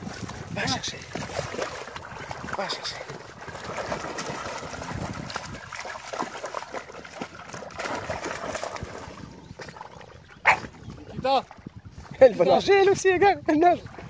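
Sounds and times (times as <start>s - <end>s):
dogs splashing through water: 0.0s - 14.0s.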